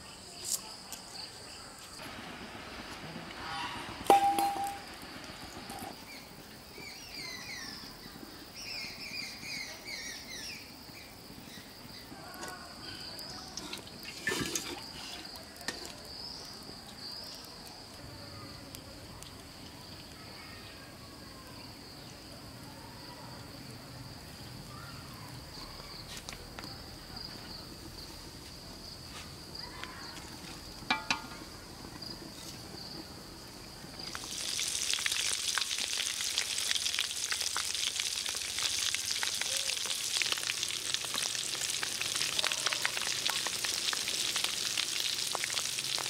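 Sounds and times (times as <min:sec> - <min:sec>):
crickets chirring: 0:03.6 - 0:46.0.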